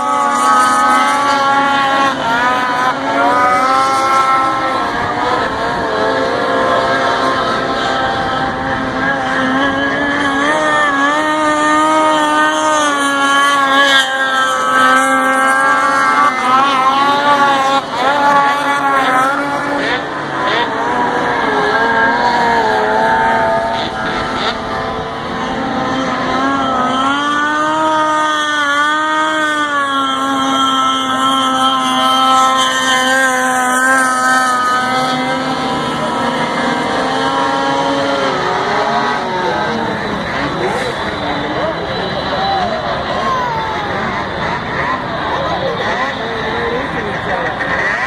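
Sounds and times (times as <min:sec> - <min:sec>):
snowmobile engines whining: 0:00.0 - 0:48.0.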